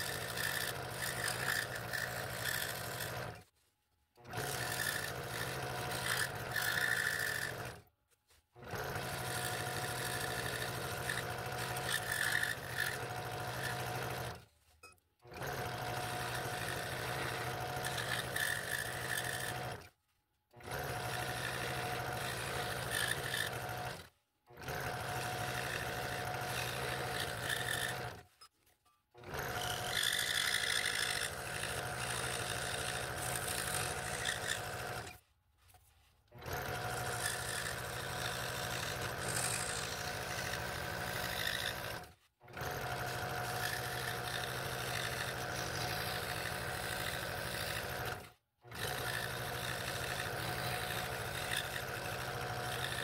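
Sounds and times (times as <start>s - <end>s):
scroll saw cutting wood: 0.0s - 53.0s.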